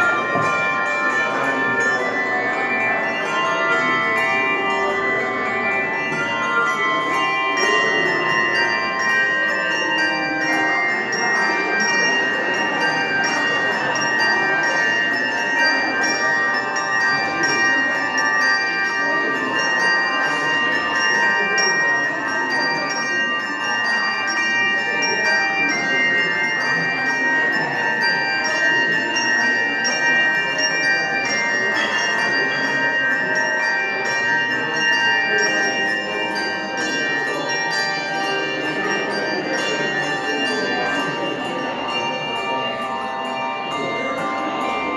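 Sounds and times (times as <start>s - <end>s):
handbell choir playing: 0.0s - 44.9s.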